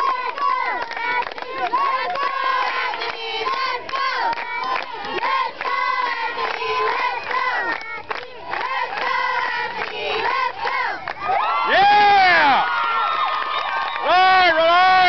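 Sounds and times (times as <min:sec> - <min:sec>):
children shouting and chanting: 0:00.0 - 0:12.6.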